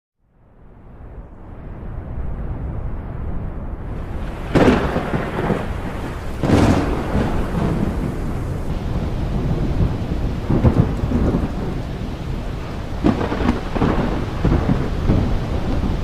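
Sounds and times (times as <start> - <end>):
thunder rumble: 0.4 - 16.0
thunder cracks: 1.2 - 16.0.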